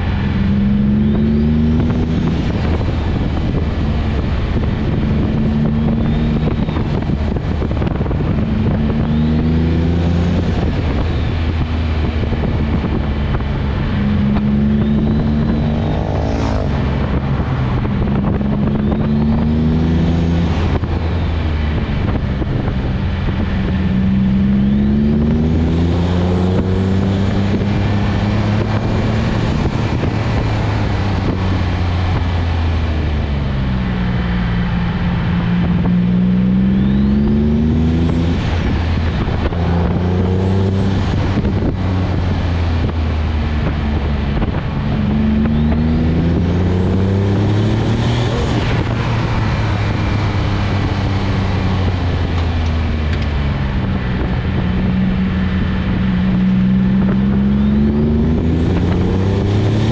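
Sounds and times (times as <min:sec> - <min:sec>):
car engine accelerating: 0:00.0 - 0:59.9
road and wind noise: 0:00.0 - 0:59.9.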